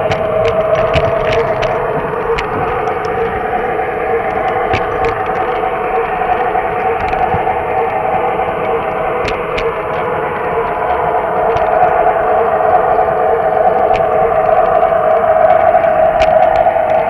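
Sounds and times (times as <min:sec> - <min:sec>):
sharp clicks: 0:00.0 - 0:17.0.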